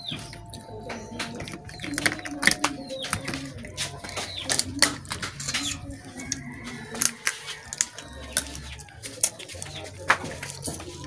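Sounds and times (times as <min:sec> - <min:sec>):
crab shells cracking by hand: 0:00.0 - 0:11.0.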